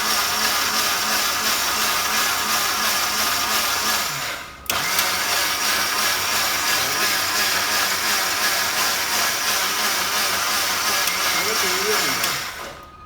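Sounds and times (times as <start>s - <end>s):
mixer grinder running: 0.0s - 13.0s.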